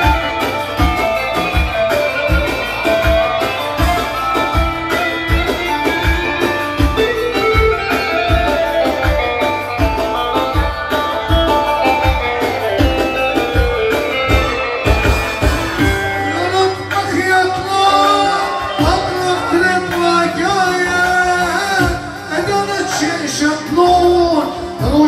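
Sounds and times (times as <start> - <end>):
plucked string instrument melody: 0.0 - 25.0
steady drum beat: 0.0 - 25.0.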